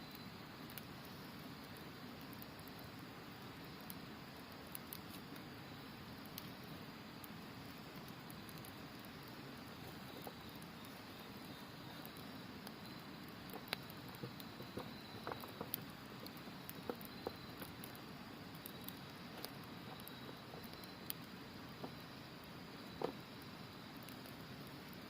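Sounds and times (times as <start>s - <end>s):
insects trilling: 0.0s - 25.0s
campfire crackling and popping: 0.1s - 25.0s.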